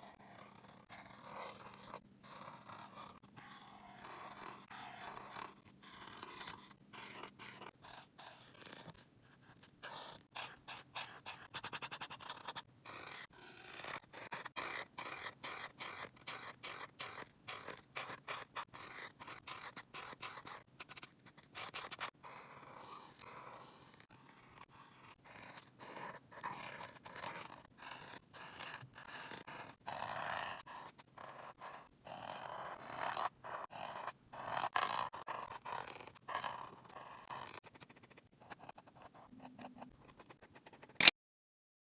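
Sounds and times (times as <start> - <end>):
drawing tool scratching on paper: 0.0 - 41.1.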